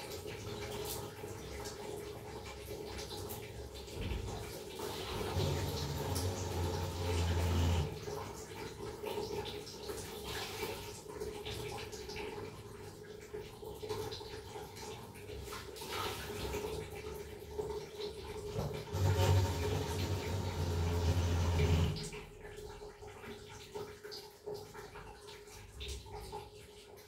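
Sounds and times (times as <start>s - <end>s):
water running and dripping: 0.0s - 27.0s.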